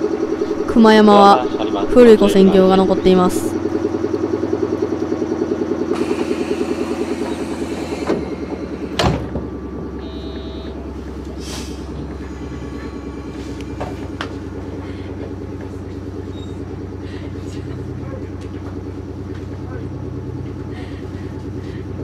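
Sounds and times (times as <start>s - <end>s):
air compressor chugging: 0.0s - 22.0s.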